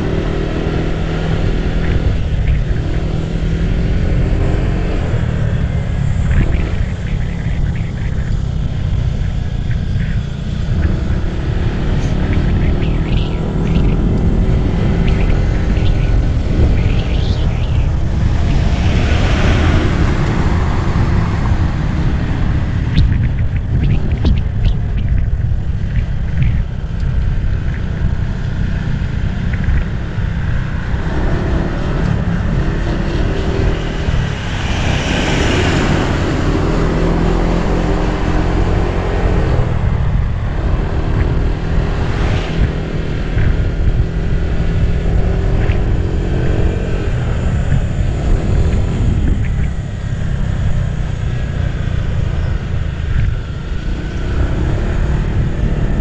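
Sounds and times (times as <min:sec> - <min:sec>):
car engine rumble: 0:00.0 - 0:56.0
road noise: 0:00.0 - 0:56.0
rush of noise: 0:00.0 - 0:56.0.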